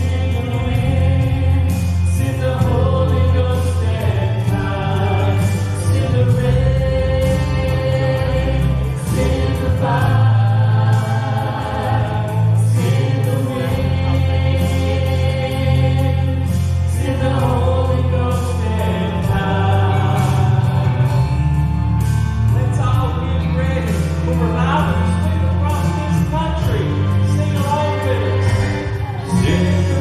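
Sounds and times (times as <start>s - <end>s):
band with steady bass: 0.0s - 30.0s
gospel group singing: 0.0s - 30.0s.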